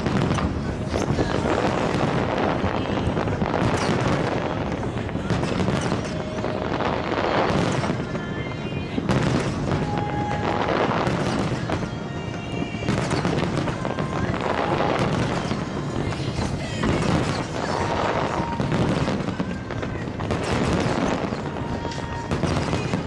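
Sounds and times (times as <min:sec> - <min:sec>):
fireworks bursting and crackling: 0:00.0 - 0:23.0
sharp firework bangs: 0:00.0 - 0:23.0.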